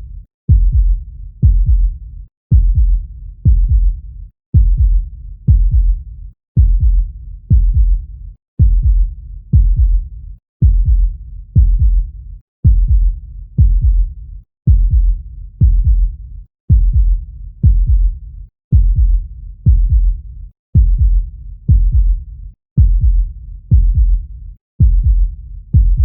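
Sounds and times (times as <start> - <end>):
heartbeat thumps: 0.0 - 4.0, 4.6 - 6.0, 6.6 - 8.0, 8.6 - 14.1, 14.7 - 20.2, 20.8 - 22.2, 22.8 - 26.0.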